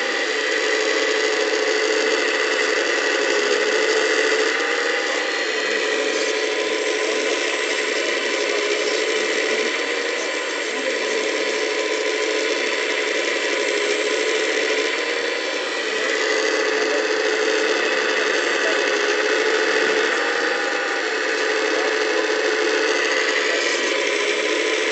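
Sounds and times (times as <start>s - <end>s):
toy excavator hydraulic whine: 0.0s - 24.9s.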